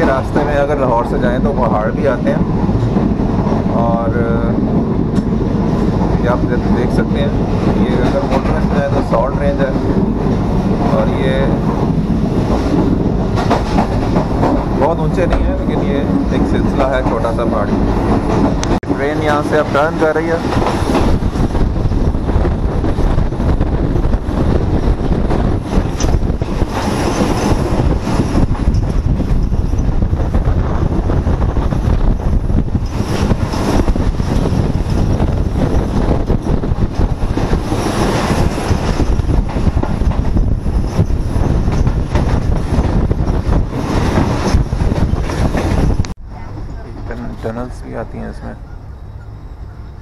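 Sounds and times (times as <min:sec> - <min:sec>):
rushing air: 0:00.0 - 0:46.5
train wheels rumbling on rails: 0:00.0 - 0:50.0.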